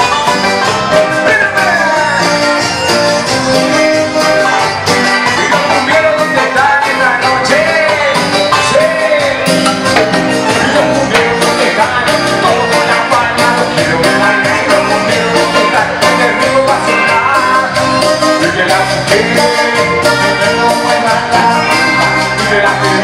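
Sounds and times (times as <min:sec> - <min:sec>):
drums and percussion: 0:00.0 - 0:23.0
guitar lead melody: 0:00.0 - 0:23.0
live band playing: 0:00.0 - 0:23.0.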